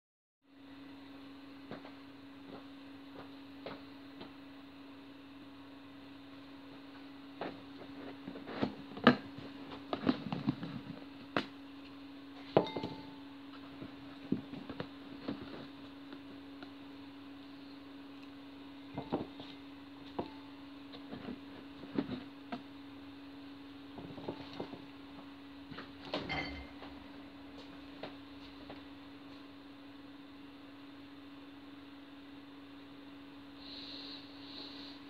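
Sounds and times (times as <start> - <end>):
steady low hum: 0.5 - 35.0.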